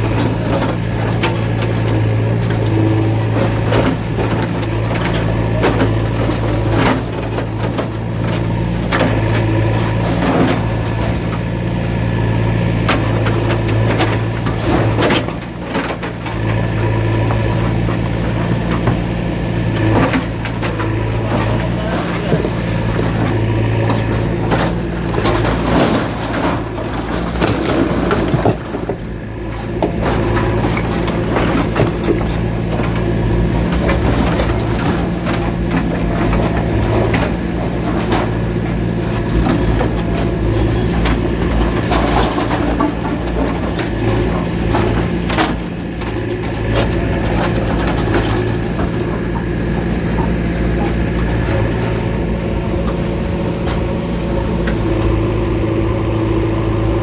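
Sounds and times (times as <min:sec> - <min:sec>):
knocks and clatter: 0:00.0 - 0:56.6
bulldozer diesel engine running: 0:00.0 - 0:57.0.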